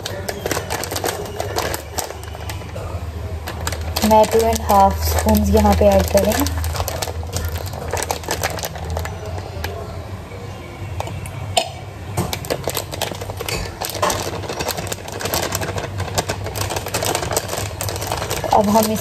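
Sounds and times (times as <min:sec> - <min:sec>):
plastic bag crinkling: 0:00.0 - 0:10.0, 0:12.2 - 0:19.0.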